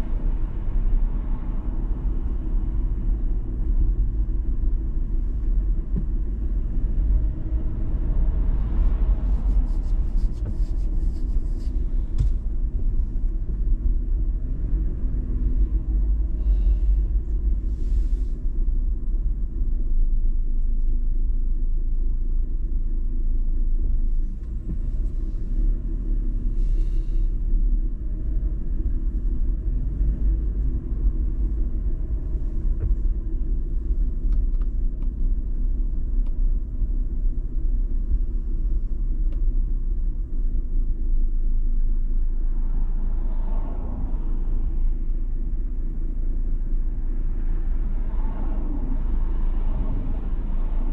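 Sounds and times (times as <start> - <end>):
engine and road rumble: 0.0 - 50.9.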